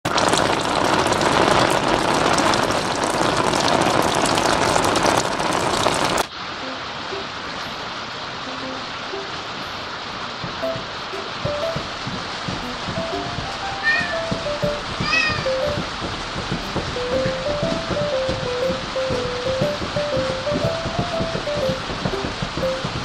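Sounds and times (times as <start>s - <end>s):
rain splashing into water: 0.0s - 23.0s
heavy rain pouring: 0.1s - 23.0s.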